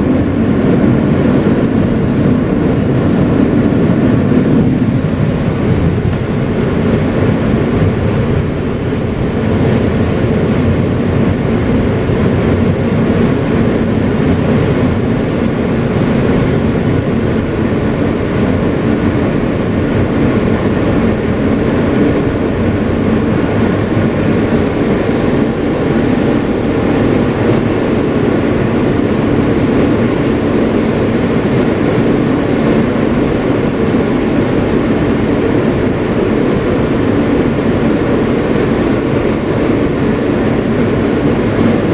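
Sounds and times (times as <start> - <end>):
subway car rumbling on track: 0.0 - 41.9.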